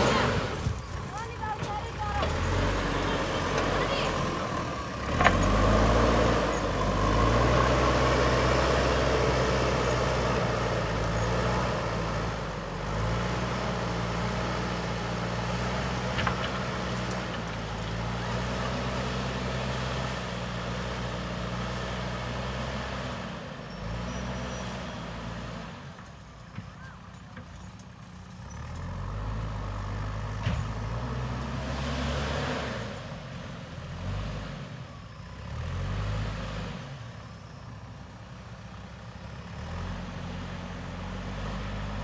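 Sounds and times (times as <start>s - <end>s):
diesel engine revving under load: 0.0s - 26.3s, 28.2s - 42.0s.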